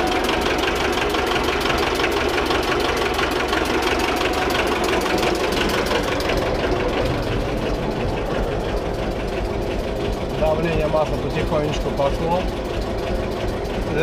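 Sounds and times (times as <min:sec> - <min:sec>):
diesel engine knocking: 0:00.0 - 0:14.0.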